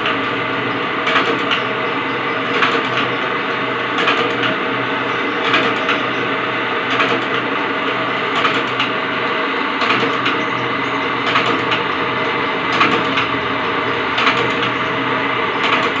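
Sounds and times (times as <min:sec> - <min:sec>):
wire-cutting machine humming: 0:00.0 - 0:16.0.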